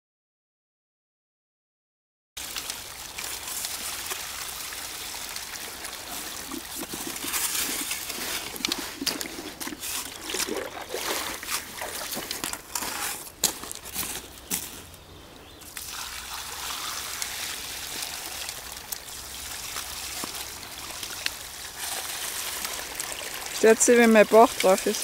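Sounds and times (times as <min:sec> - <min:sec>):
water trickling and splashing: 0:02.4 - 0:25.0.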